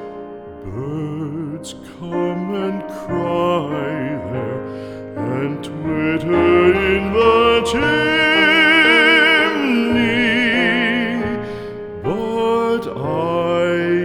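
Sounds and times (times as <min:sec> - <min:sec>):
person singing ballad: 0:00.0 - 0:14.0.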